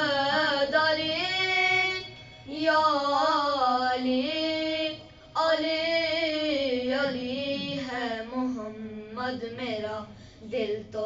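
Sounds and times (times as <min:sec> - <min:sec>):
child singing unaccompanied: 0:00.0 - 0:11.0.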